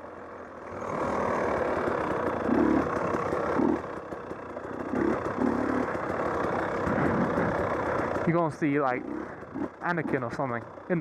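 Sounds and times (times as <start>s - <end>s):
two-stroke dirt bike engine revving: 0.0s - 11.0s.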